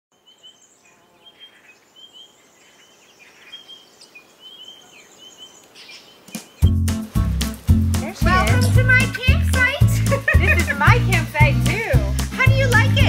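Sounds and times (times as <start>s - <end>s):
birds chirping: 0.1s - 13.0s
faint background hiss: 0.2s - 13.0s.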